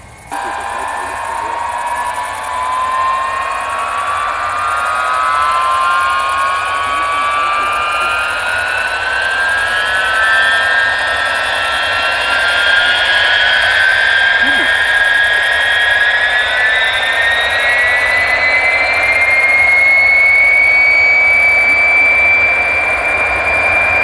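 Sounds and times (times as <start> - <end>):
jet engines spooling up: 0.0 - 24.0.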